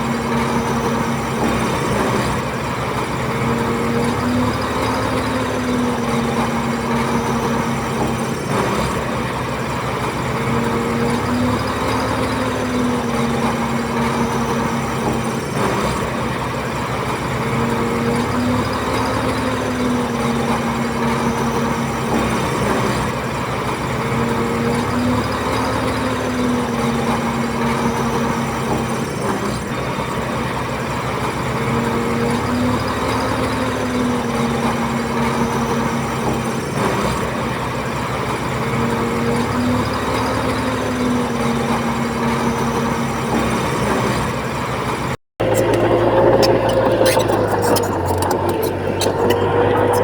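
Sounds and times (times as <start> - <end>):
bulldozer diesel engine working: 0.0 - 50.0.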